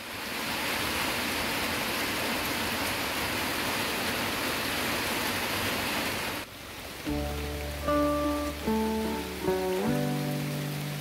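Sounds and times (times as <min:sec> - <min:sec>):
rain falling on trees: 0:00.0 - 0:11.0.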